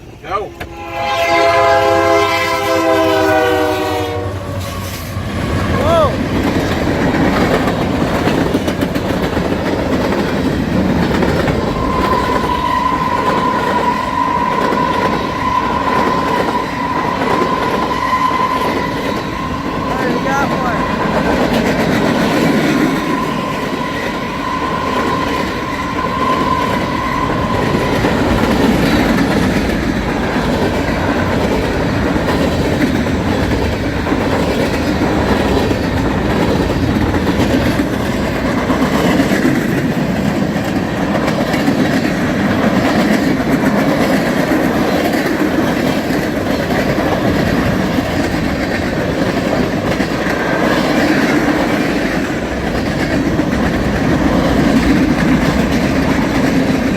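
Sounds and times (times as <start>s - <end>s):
freight train rumbling past: 0.0s - 56.9s
wheels clattering over rail joints: 5.4s - 56.9s.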